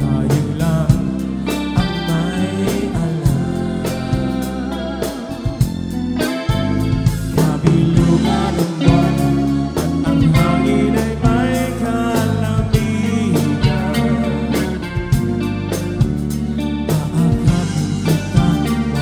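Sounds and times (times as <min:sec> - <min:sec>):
man singing into microphone: 0:00.0 - 0:05.7, 0:07.2 - 0:15.2, 0:16.9 - 0:19.0
live pop rock band: 0:00.0 - 0:19.0.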